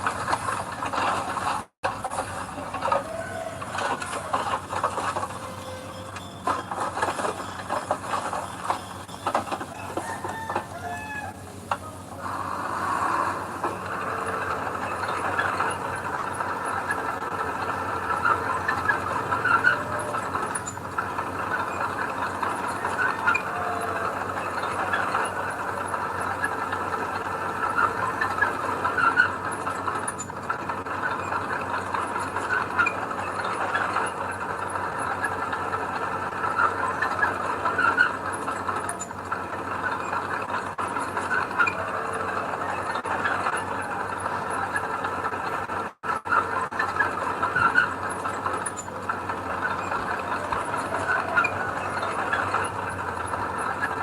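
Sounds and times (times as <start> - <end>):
high-pitched metallic clatter: 0.0 - 11.0, 11.6 - 54.0
earthmoving machinery engine: 0.0 - 54.0.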